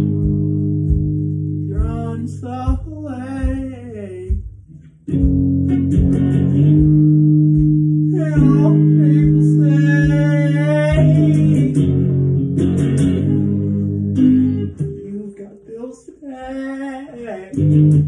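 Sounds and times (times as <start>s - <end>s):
steady low beat: 0.0s - 15.5s
electric guitar chords: 0.0s - 18.0s.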